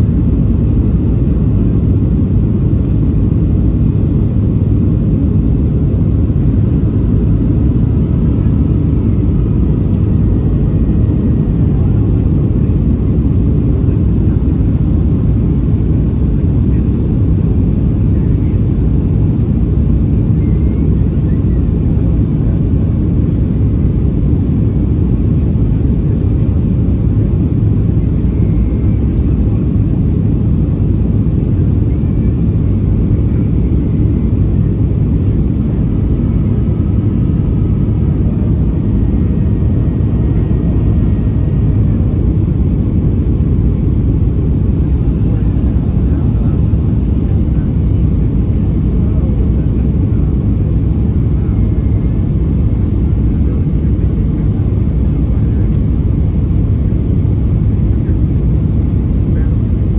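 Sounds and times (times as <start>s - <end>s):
airplane cabin jet engine roar: 0.0s - 59.9s.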